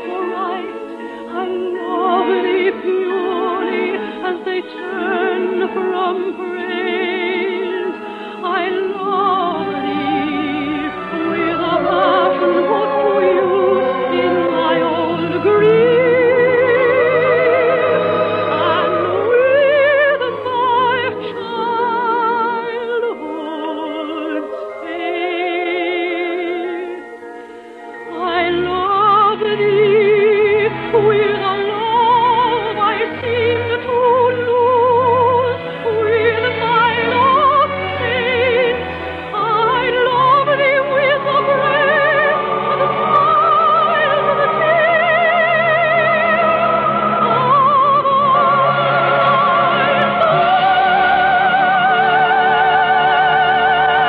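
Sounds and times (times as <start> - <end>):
operatic singing with vibrato: 0.0 - 54.0
orchestra playing: 0.0 - 54.0.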